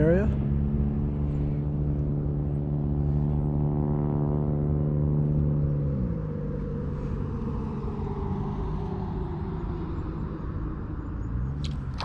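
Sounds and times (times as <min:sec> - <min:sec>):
passing vehicle engine rumble: 0:00.0 - 0:12.0.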